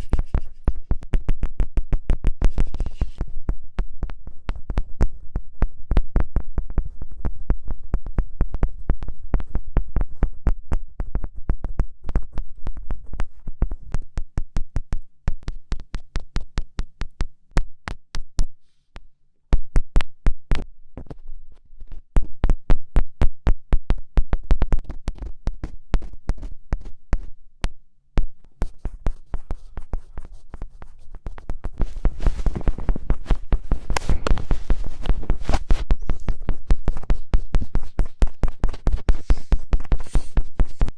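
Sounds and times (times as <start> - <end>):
fingertips tapping a microphone: 0.0 - 40.9.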